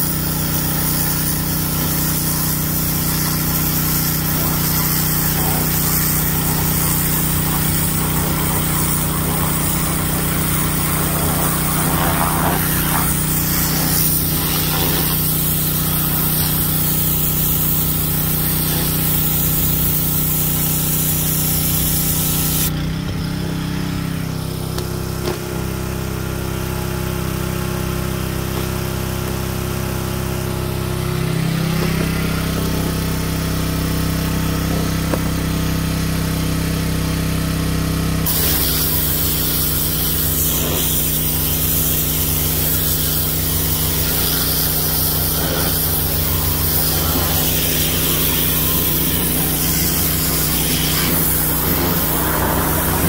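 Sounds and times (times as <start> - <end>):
high-pressure spray hissing on concrete: 0.0 - 53.0
pressure washer engine running: 0.0 - 53.0.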